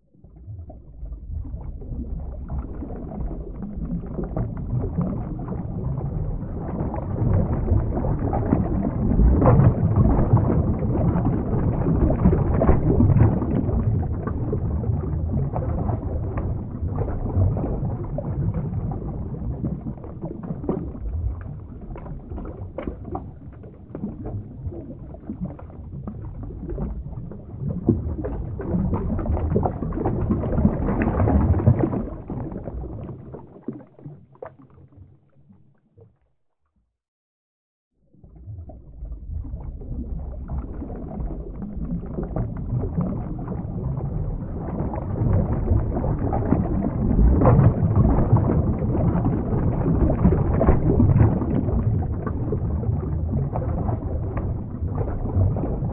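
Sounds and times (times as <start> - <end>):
underwater wash of moving water: 0.0 - 36.3, 38.0 - 55.9.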